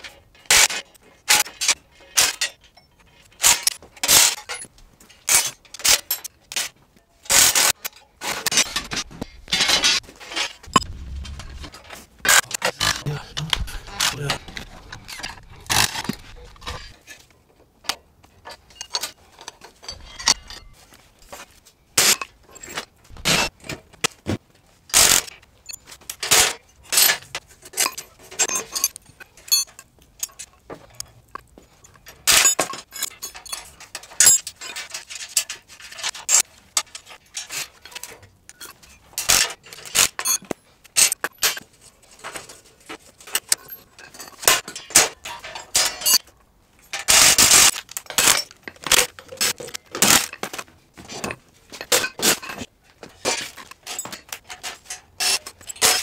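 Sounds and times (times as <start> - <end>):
metal parts clinking and clanking: 0.0 - 24.2, 24.8 - 56.0.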